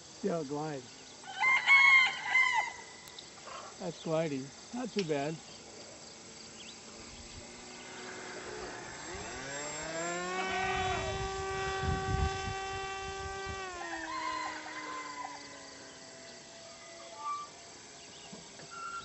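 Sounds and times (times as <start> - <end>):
electric motor and propeller whining: 2.4 - 19.0.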